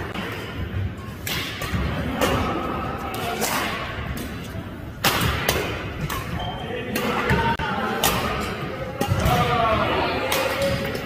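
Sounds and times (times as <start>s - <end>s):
rackets hitting a shuttlecock: 0.0s - 9.6s, 10.2s - 11.0s.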